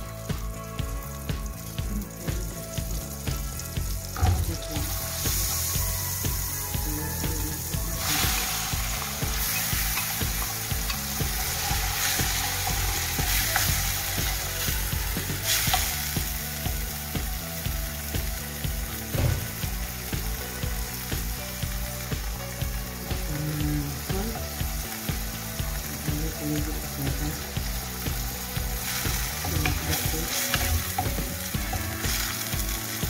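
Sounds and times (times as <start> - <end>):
tofu sizzling in hot fat: 0.0 - 33.0.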